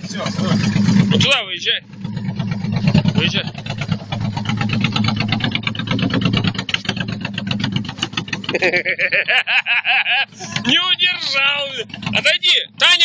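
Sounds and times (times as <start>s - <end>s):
motorcycle engine revving: 0.0s - 9.5s, 10.2s - 13.0s.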